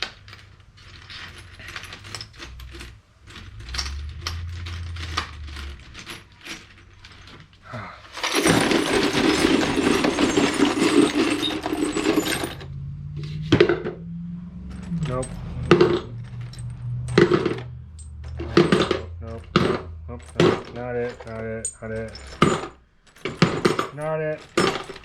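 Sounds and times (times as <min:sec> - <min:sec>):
pile of bolts rattling: 0:00.0 - 0:12.7, 0:14.6 - 0:25.0
nuts and bolts clinking: 0:00.0 - 0:25.0.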